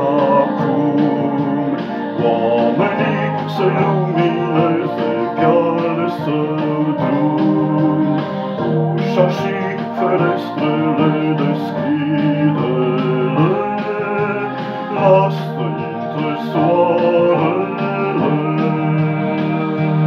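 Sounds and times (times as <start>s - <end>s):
digital piano chords and melody: 0.0s - 20.0s.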